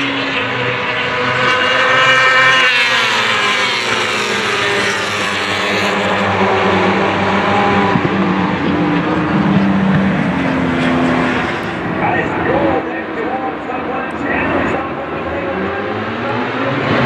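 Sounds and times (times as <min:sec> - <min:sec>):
racing motorcycles passing by: 0:00.0 - 0:17.0.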